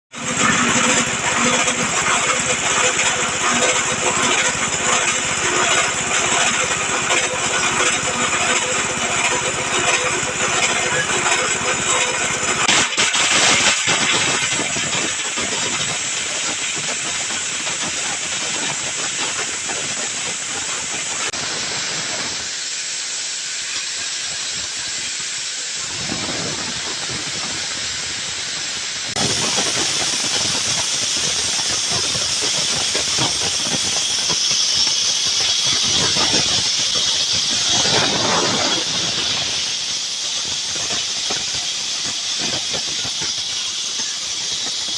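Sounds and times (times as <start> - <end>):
grinding mill running: 0.1 - 44.9.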